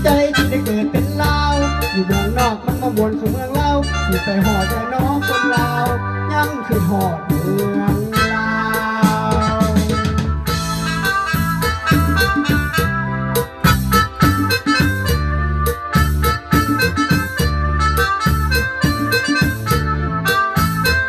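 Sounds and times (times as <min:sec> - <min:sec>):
upbeat keyboard accompaniment: 0:00.0 - 0:21.0.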